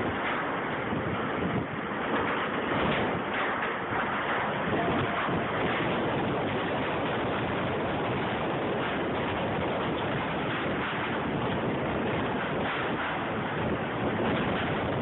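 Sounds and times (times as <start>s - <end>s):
wind rushing across microphone: 0.0s - 15.0s.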